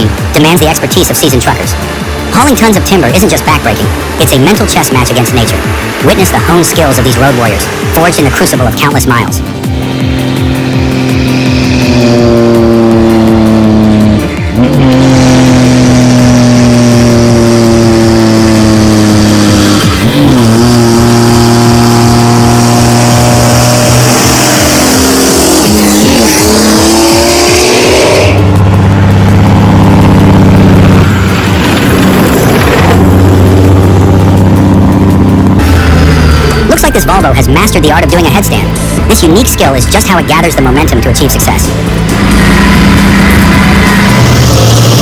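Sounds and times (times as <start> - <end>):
truck diesel engine labouring: 0.0 - 45.0.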